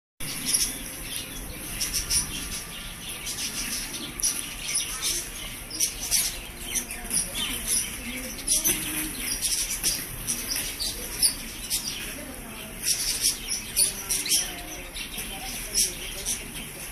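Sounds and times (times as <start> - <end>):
birds chirping: 0.2 - 16.9.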